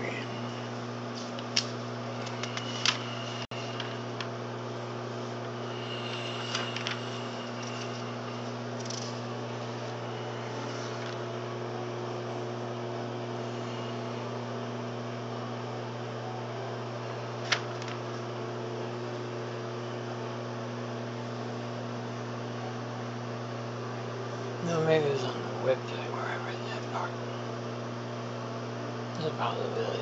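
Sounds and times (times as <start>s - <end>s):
microwave oven humming: 0.0s - 30.0s.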